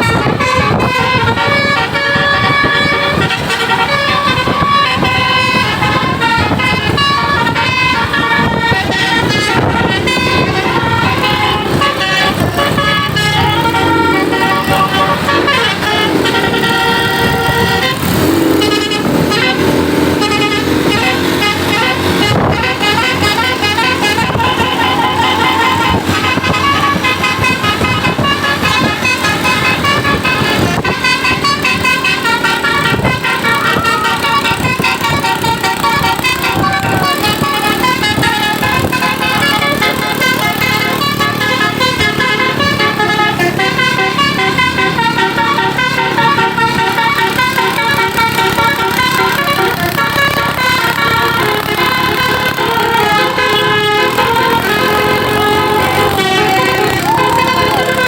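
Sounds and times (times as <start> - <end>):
bus air horn playing a tune: 0.0 - 58.0
low held horn tone: 0.0 - 58.0.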